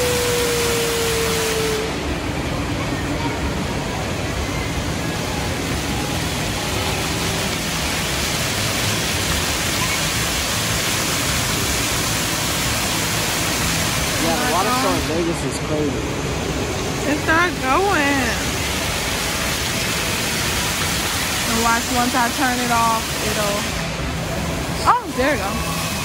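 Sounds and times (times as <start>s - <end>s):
fountain water splashing: 0.0s - 26.0s.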